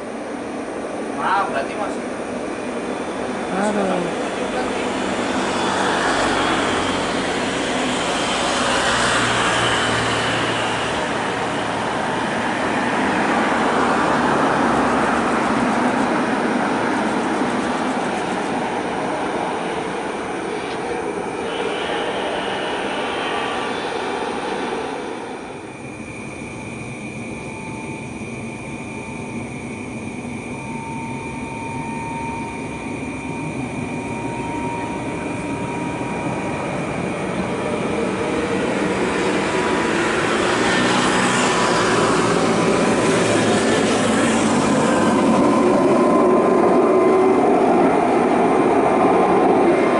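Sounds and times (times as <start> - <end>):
jet engines roaring: 0.0 - 49.9
thin engine whine: 0.0 - 49.9.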